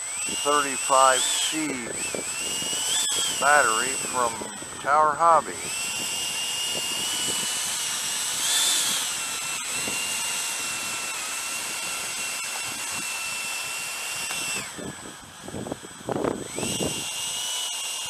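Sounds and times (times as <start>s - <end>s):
electric ducted fan whine: 0.0s - 18.0s.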